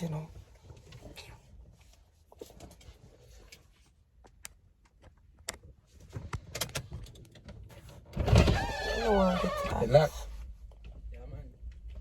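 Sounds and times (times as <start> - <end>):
clicks and knocks inside a car: 0.3 - 12.0.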